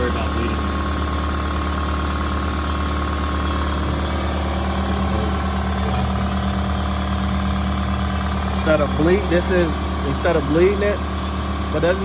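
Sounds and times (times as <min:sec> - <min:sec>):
machine humming with hiss: 0:00.0 - 0:12.0.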